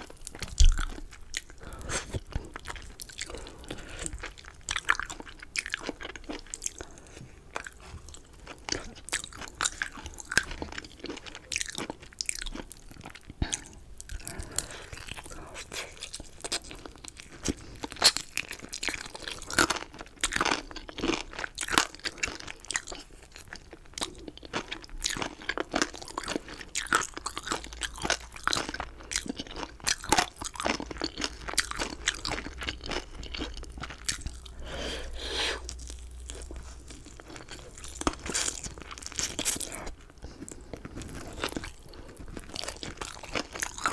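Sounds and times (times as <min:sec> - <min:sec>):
chewing crunchy chicken: 0:00.0 - 0:43.9.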